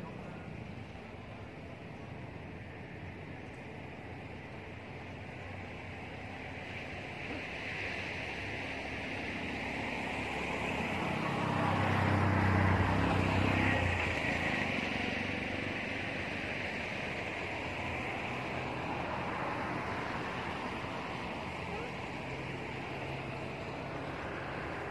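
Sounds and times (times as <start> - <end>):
vehicle engine hum: 0.0 - 24.9.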